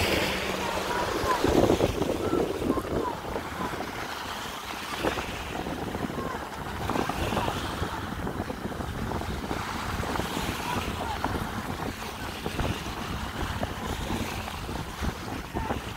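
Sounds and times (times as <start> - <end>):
faint jet ski engine: 0.0 - 15.9
small waves: 0.0 - 15.9
wind rumbling on microphone: 0.0 - 15.9.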